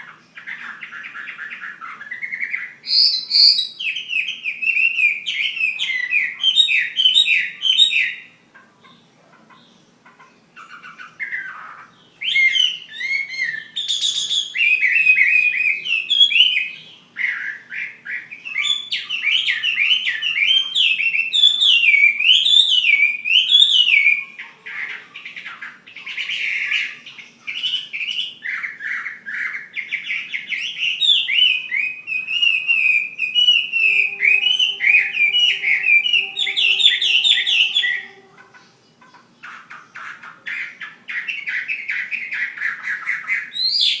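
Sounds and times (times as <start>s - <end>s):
bird singing warbling song: 0.0s - 44.0s.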